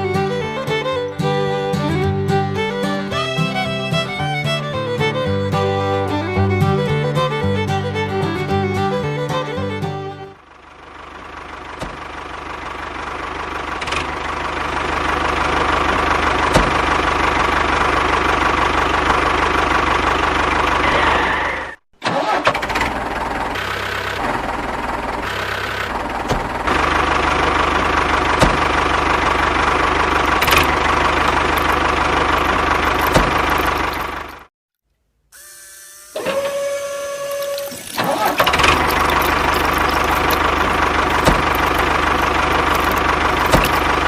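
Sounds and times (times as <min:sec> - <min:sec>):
small tractor motor running: 0:00.0 - 0:34.5, 0:35.4 - 0:44.0.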